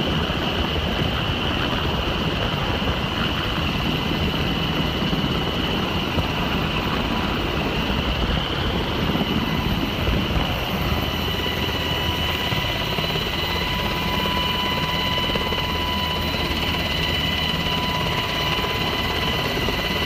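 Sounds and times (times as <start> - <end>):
helicopter rotor and engine rumble: 0.0 - 20.0
high turbine whine: 0.0 - 20.0.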